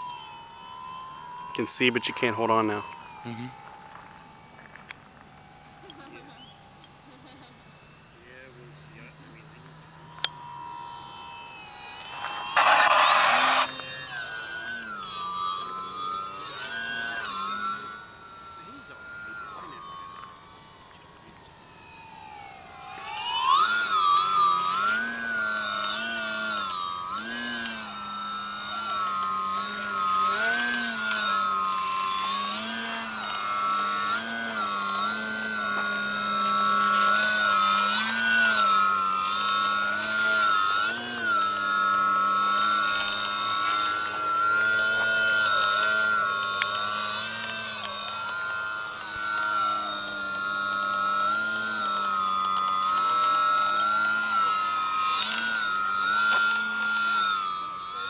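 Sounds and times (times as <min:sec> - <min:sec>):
model plane motor whining: 0:00.0 - 0:58.0.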